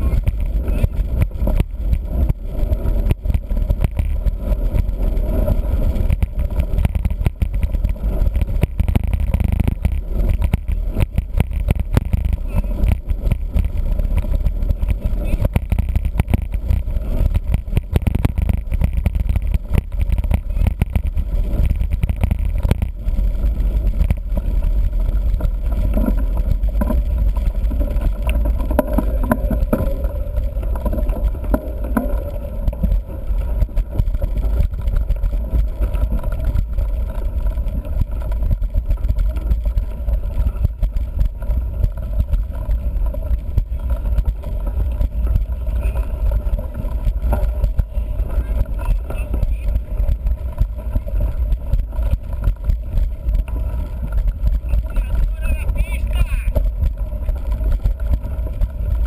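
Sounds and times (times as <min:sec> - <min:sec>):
tyres crackling over loose stones: 0:00.0 - 0:59.0
wind rumble on microphone: 0:00.0 - 0:59.0.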